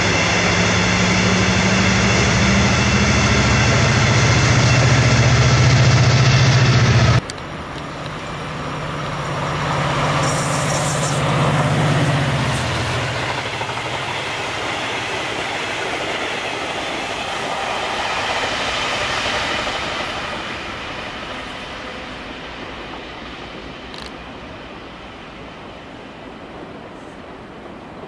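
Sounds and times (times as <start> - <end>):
diesel locomotive engine drone: 0.0 - 28.0
rail noise: 0.0 - 28.0.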